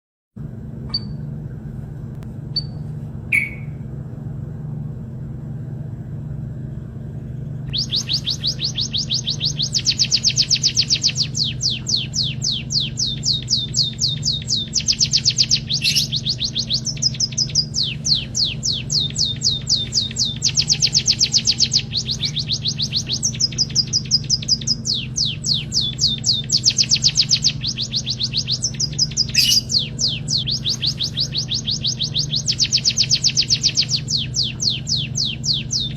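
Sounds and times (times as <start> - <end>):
low steady hum: 0.4 - 35.9
bird singing high chirping trills: 0.9 - 1.2, 2.6 - 3.8, 7.7 - 35.9.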